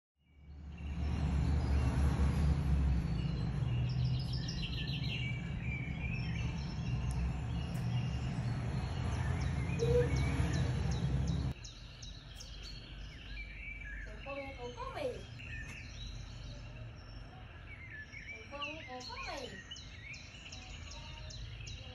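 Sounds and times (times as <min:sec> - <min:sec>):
birds chirping: 0:00.2 - 0:21.9.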